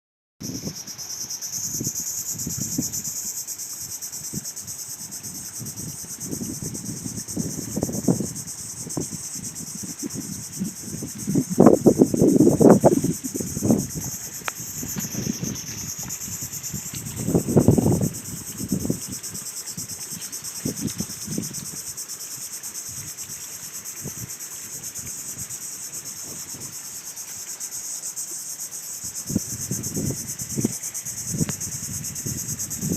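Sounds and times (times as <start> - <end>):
insects chirping: 0.4 - 32.9.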